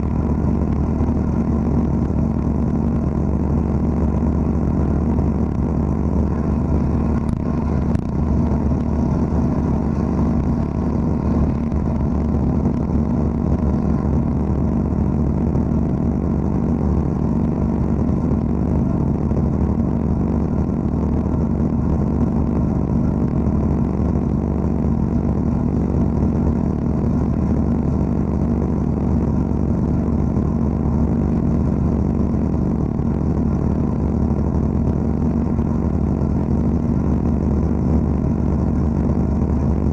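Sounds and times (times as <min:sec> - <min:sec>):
blasting machine drone: 0:00.0 - 0:39.9.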